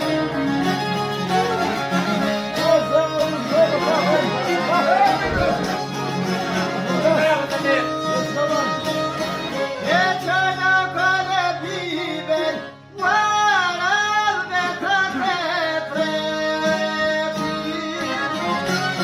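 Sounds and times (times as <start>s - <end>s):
string accompaniment: 0.0s - 19.0s.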